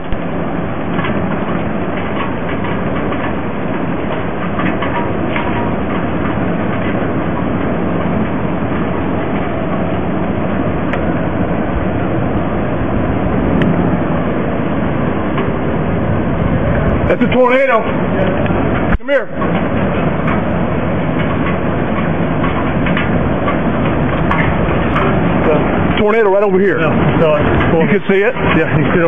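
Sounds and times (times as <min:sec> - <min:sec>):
storm wind rushing through trees: 0:00.0 - 0:29.0
wind buffeting microphone: 0:00.0 - 0:29.0.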